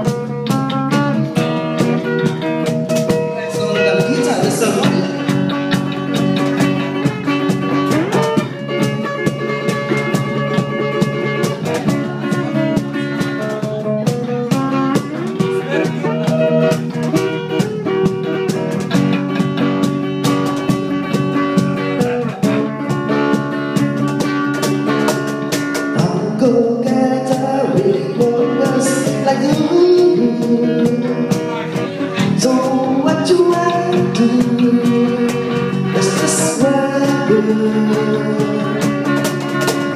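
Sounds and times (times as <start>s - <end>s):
drum and cymbal beat: 0.0s - 39.9s
guitar chords: 0.0s - 39.9s
live band playing: 0.0s - 39.9s.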